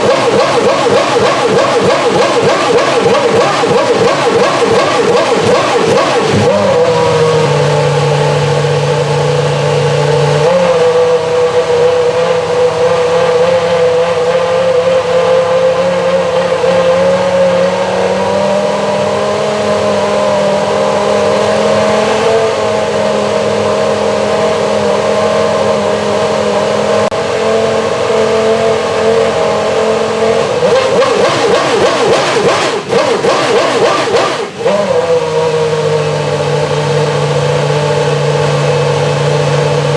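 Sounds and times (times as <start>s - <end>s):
racing car engine idling high: 0.0s - 39.9s.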